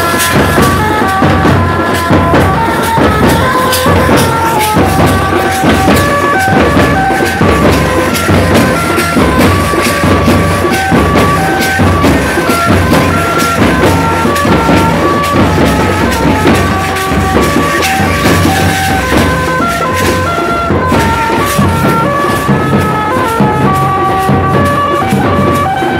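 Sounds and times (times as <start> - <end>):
band instrument melody: 0.0 - 25.9
fast tasha drumming: 0.0 - 25.9
marching bass drum: 0.0 - 25.9.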